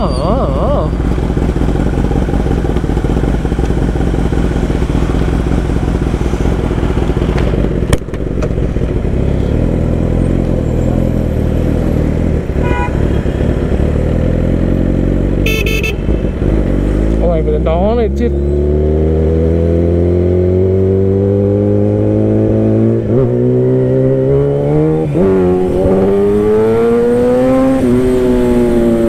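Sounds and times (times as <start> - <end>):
motorcycle engine running: 0.4 - 29.0.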